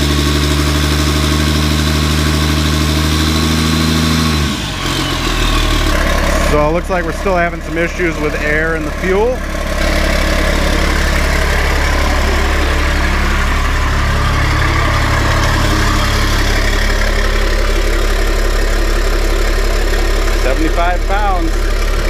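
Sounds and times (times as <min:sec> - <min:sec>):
air compressor building pressure: 0:00.0 - 0:22.0
diesel engine idling: 0:00.0 - 0:22.0.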